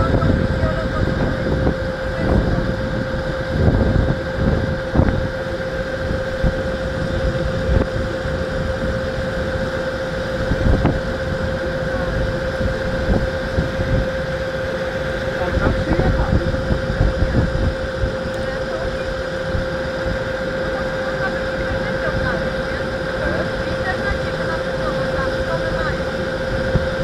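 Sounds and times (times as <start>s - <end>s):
boat engine humming: 0.0s - 27.0s
wind on microphone: 0.0s - 27.0s.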